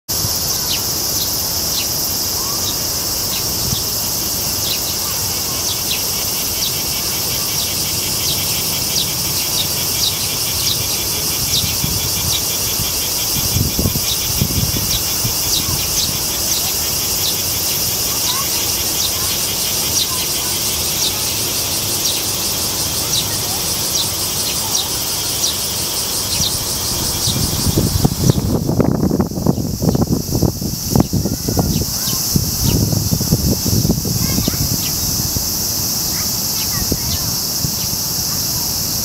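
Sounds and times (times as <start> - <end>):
insects shrilling: 0.1 - 39.0.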